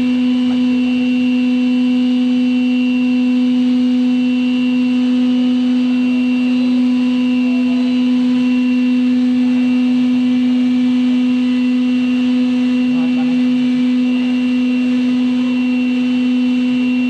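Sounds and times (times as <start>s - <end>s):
lathe humming: 0.0s - 17.0s.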